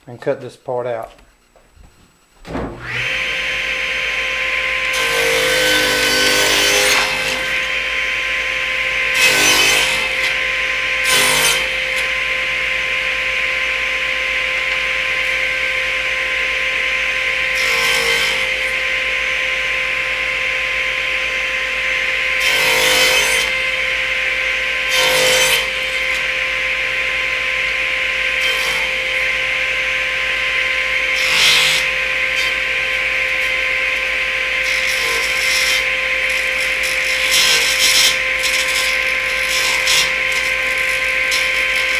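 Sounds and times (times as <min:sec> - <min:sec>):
table saw running: 0:02.7 - 0:41.9
saw blade cutting wood: 0:02.8 - 0:13.0, 0:13.9 - 0:19.6, 0:21.0 - 0:26.7, 0:27.7 - 0:41.9.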